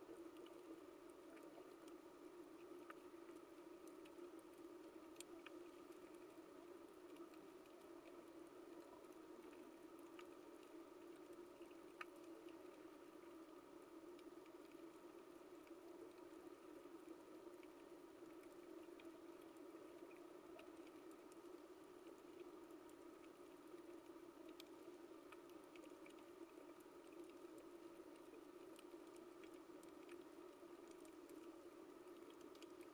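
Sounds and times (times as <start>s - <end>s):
steady low underwater hum: 0.0s - 32.9s.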